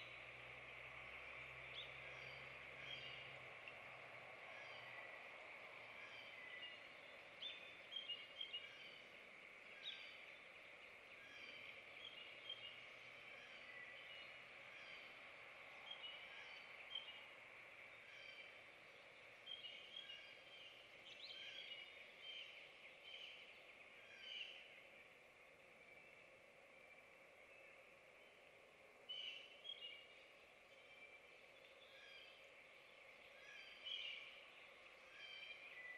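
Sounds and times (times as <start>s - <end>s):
songbirds chirping faintly: 0.0s - 35.9s
steady background hiss: 0.0s - 35.9s.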